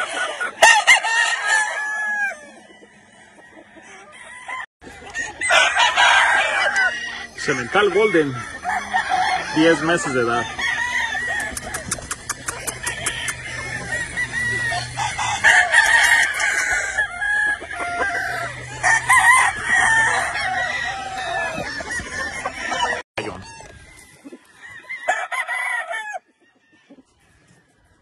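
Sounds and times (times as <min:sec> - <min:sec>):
roosters crowing: 0:00.0 - 0:28.0.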